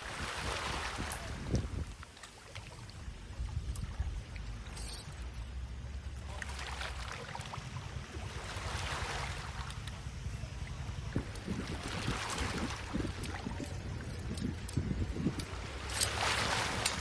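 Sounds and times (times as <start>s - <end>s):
wind on microphone: 0.0s - 5.4s, 7.0s - 17.0s
rushing water: 0.0s - 17.0s.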